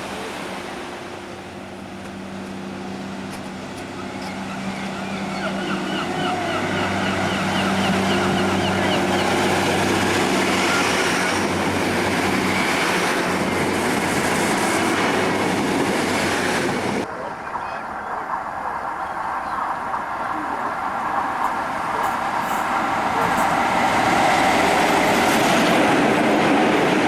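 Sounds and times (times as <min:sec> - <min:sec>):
train engine hum: 0:00.0 - 0:27.0
train wheel and rail noise: 0:00.0 - 0:27.0.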